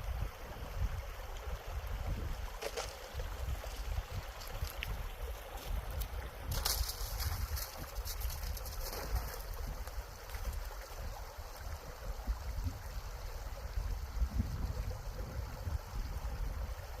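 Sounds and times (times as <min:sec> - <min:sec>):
flowing creek: 0:00.0 - 0:17.0
wind buffeting microphone: 0:00.0 - 0:17.0.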